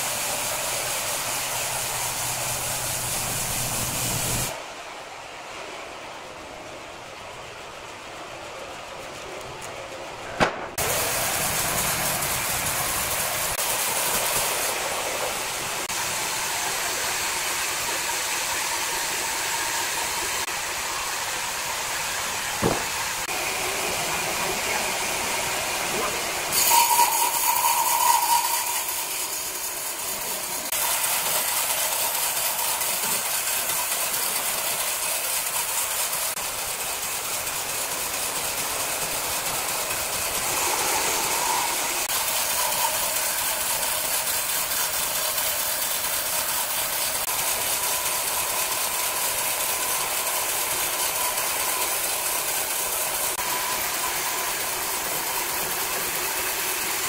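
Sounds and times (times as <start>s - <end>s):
band sawmill hissing: 0.0s - 8.6s, 10.8s - 57.0s.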